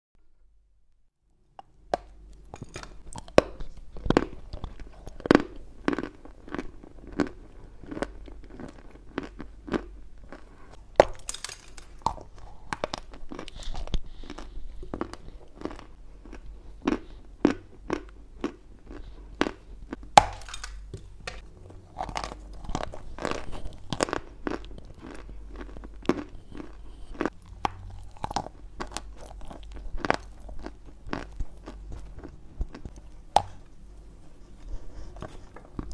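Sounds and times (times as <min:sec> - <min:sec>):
chewing chalk crunching: 0:02.0 - 0:35.9.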